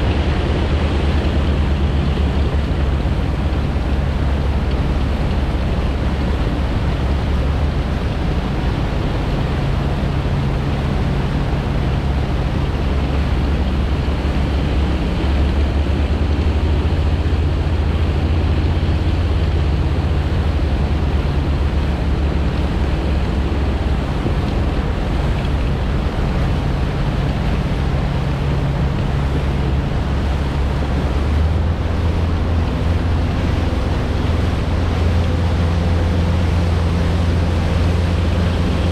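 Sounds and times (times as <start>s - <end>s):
boat engine drone: 0.0s - 38.9s
rushing water: 0.0s - 38.9s
wind buffeting microphone: 0.0s - 38.9s.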